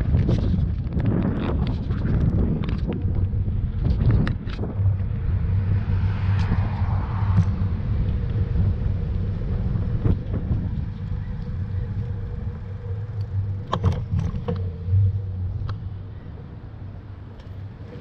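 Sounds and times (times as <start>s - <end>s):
wind and road rumble: 0.0s - 18.0s.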